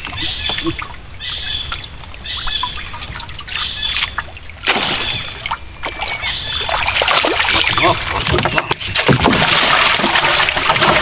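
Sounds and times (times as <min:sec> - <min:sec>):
water trickling and sloshing: 0:00.0 - 0:11.0.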